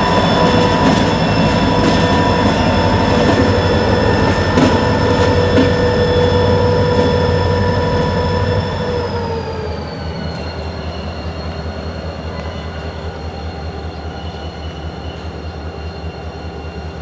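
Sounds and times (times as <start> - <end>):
train rumble: 0.0 - 17.0
train wheels squealing: 0.0 - 17.0.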